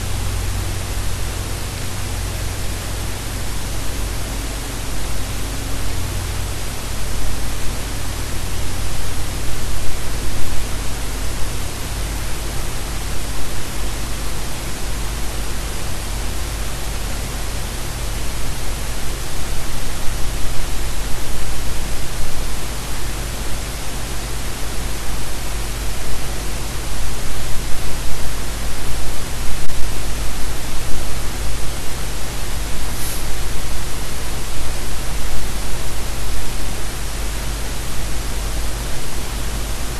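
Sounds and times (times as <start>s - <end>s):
loud static-like noise: 0.0s - 39.9s
steady low hum: 0.0s - 39.9s.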